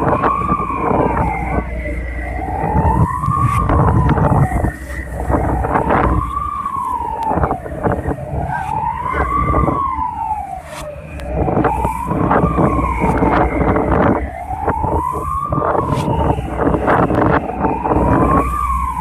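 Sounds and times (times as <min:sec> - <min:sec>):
sea noise: 0:00.0 - 0:19.0
wailing alarm siren: 0:00.0 - 0:19.0
wind buffeting: 0:00.0 - 0:19.0.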